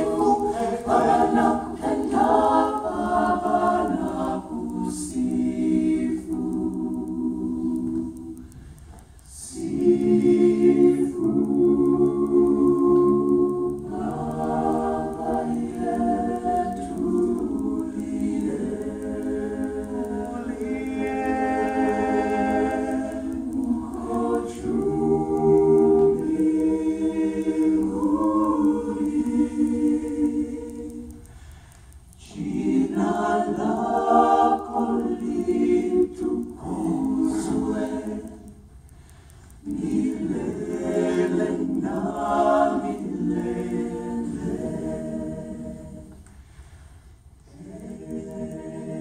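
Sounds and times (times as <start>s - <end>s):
a cappella choir singing: 0.0s - 49.0s.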